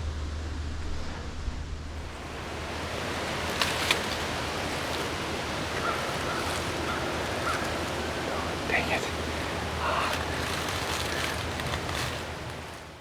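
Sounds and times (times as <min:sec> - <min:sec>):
strong wind through trees: 0:00.0 - 0:13.0
wind buffeting microphone: 0:01.7 - 0:13.0.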